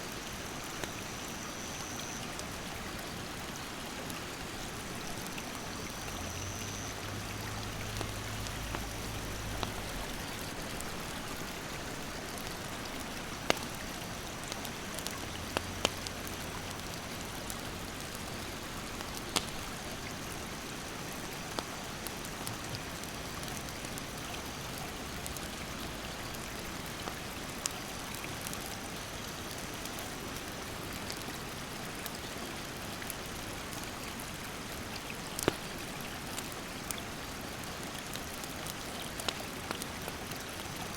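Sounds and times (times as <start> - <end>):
campfire crackling and popping: 0.1 - 40.9
mountain stream rushing: 2.4 - 40.9.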